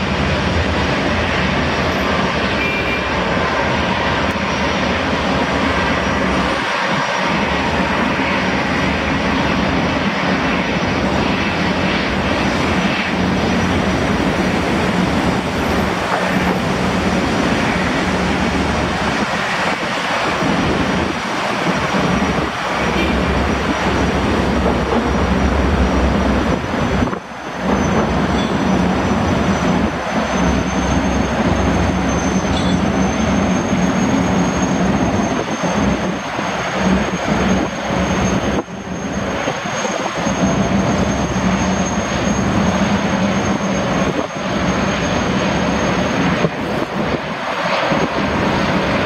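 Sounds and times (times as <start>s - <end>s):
gas turbine whine: 0.0s - 49.0s
waterjet spray rushing: 0.0s - 49.0s.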